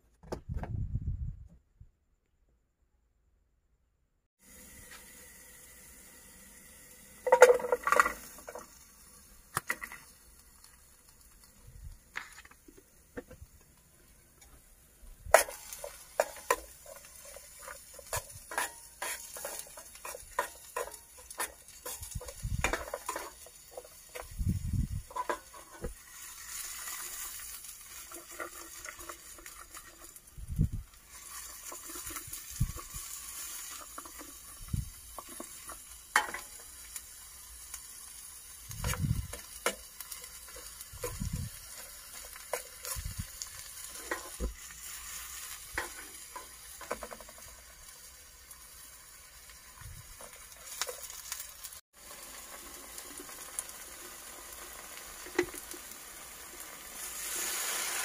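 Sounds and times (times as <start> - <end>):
sizzling in a pan: 4.4 - 58.0.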